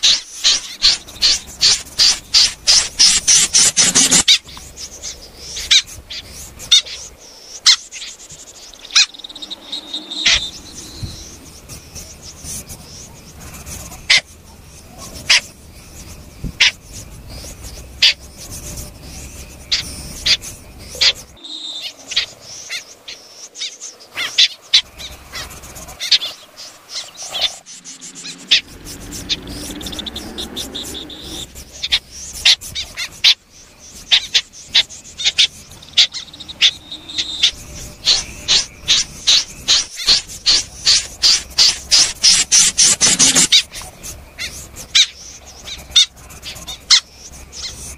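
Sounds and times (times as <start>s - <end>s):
snipe calling: 0.0s - 47.9s.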